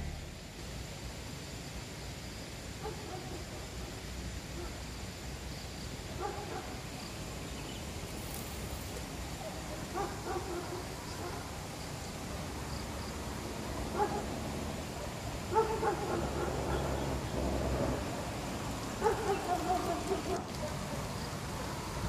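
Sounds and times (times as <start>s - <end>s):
low background noise: 0.0s - 22.0s.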